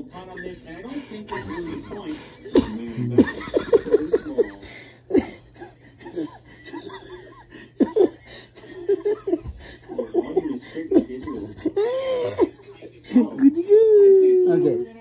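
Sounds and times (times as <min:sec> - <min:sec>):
men laughing: 0:01.1 - 0:13.7.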